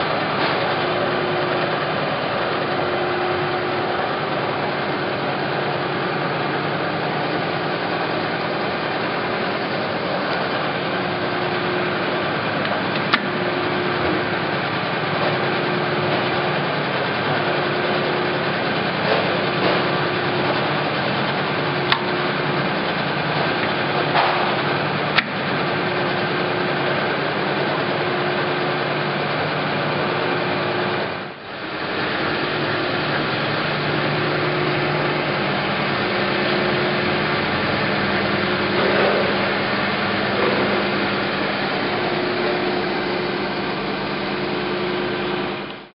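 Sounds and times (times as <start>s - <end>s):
lathe drone: 0.0s - 45.9s
pitched whine: 0.0s - 45.9s.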